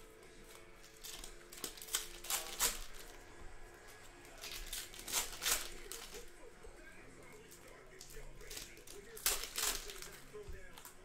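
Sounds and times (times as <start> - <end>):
plastic wrappers crinkling and tearing: 0.4 - 6.5, 7.1 - 11.0.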